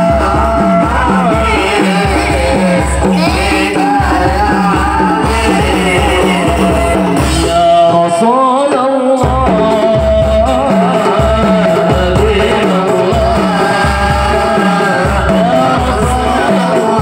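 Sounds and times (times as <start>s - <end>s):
frame drums beating: 0.0s - 17.0s
group singing devotional chant: 0.0s - 17.0s.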